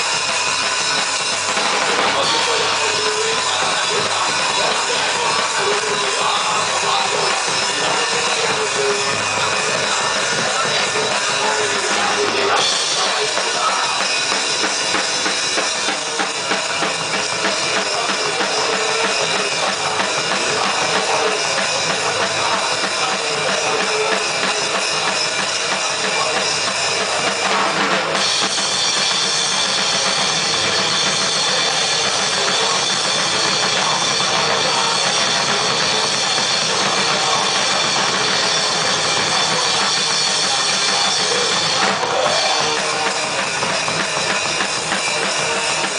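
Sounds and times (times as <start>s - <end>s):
cymbals crashing: 0.0s - 45.9s
heavy band playing live: 0.0s - 45.9s
pounding bass drum and snare: 0.0s - 45.9s.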